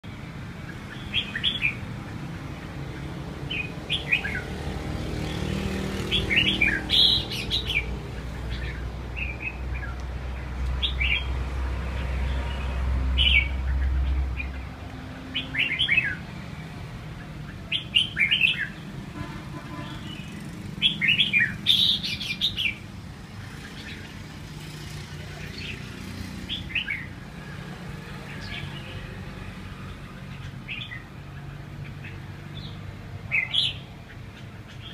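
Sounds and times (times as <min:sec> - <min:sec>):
low traffic rumble: 0:00.0 - 0:34.9.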